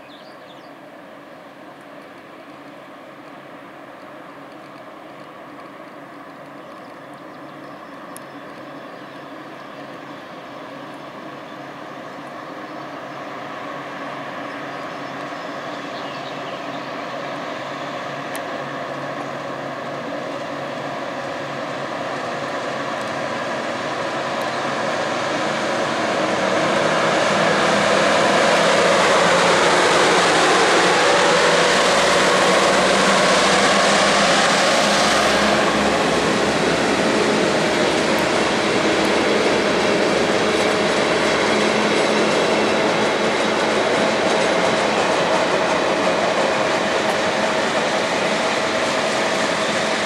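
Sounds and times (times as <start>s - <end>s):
electric locomotive hum: 0.0s - 50.0s
freight cars rumbling on rails: 0.0s - 50.0s.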